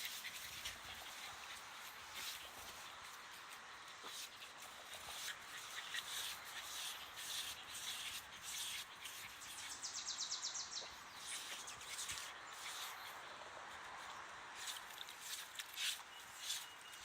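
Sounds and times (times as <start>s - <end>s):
dog claws scratching wet soil: 0.0s - 17.0s.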